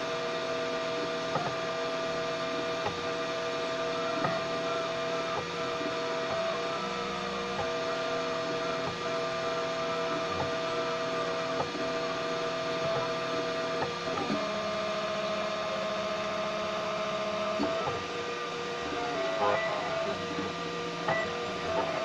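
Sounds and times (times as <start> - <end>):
three d printer whine: 0.0 - 22.0.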